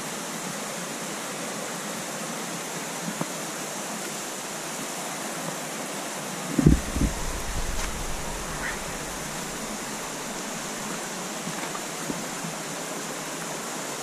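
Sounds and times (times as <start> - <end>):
river flowing over rocks: 0.0 - 14.0.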